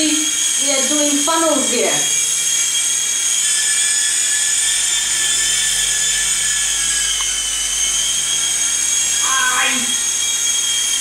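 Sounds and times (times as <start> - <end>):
rc helicopter motor whine: 0.0 - 11.0.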